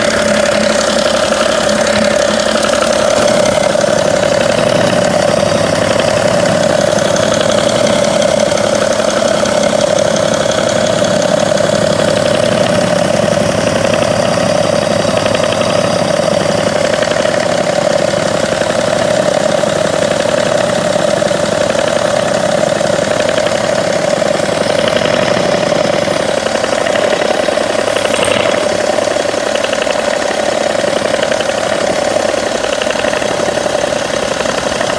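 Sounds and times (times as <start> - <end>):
diesel engine idling: 0.0 - 34.9
engine clicking: 0.0 - 34.9.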